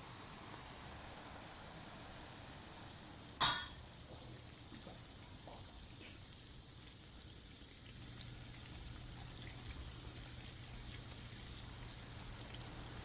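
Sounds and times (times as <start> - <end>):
dough sizzling in hot oil: 0.0 - 13.0
small crackles of frying: 0.0 - 13.0.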